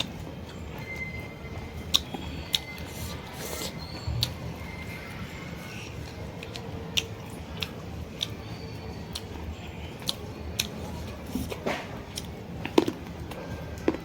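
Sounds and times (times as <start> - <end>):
chewing food: 1.8 - 14.0.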